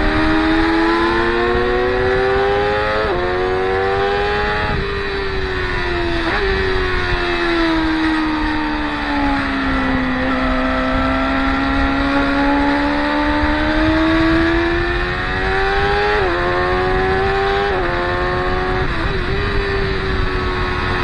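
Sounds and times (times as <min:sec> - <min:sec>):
racing motorcycle engine revving: 0:00.0 - 0:21.0.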